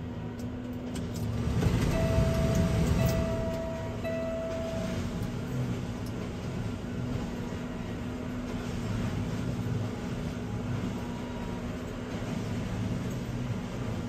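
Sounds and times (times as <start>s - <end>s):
engine drone with low rumble: 0.0s - 14.0s.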